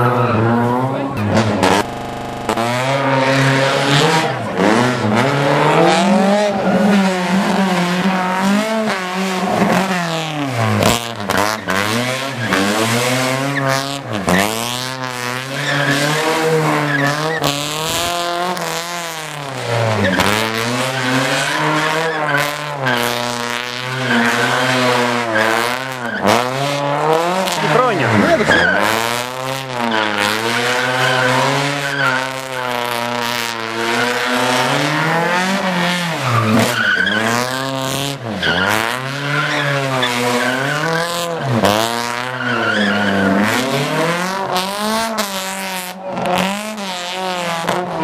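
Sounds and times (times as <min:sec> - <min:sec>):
tyres squealing and skidding: 0:00.0 - 0:01.9, 0:02.6 - 0:47.8
car engine revving hard: 0:00.0 - 0:48.0.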